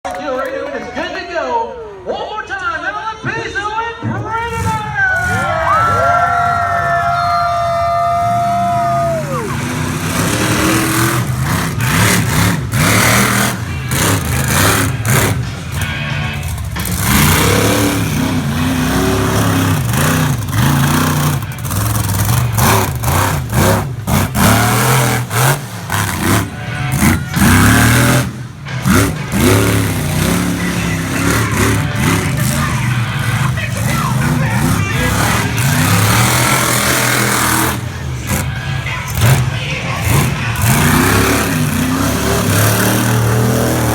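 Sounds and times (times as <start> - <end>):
monster truck engine revving: 4.3 - 43.9.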